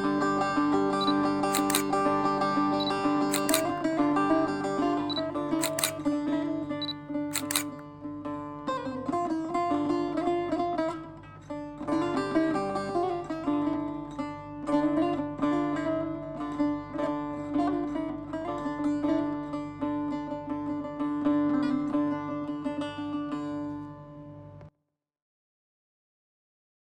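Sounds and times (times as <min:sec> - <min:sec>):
plucked string instrument music: 0:00.0 - 0:24.6.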